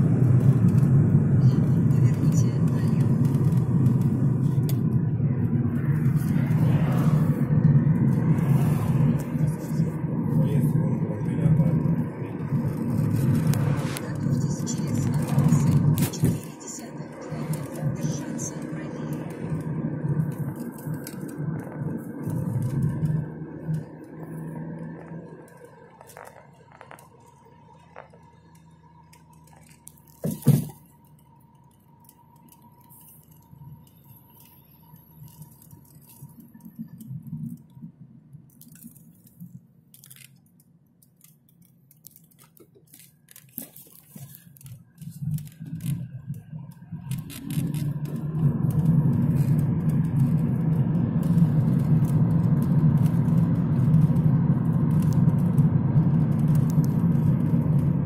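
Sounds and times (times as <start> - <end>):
road noise inside moving car: 0.0 - 58.0
small clicks and crackles: 0.0 - 58.0.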